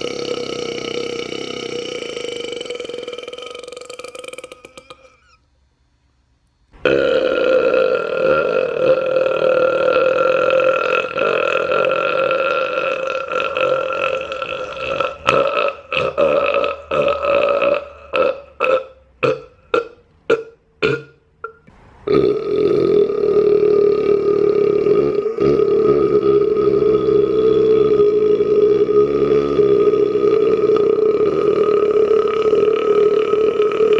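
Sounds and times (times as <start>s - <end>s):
man belching: 0.0s - 5.4s, 6.8s - 33.9s.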